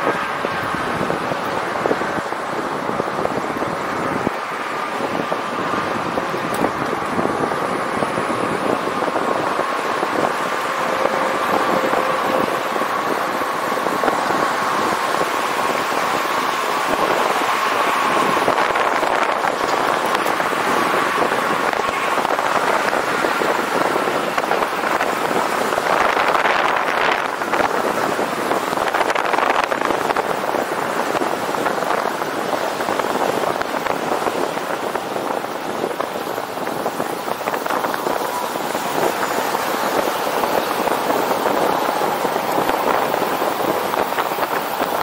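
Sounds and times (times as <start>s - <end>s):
wind rush over microphone: 0.0s - 45.0s.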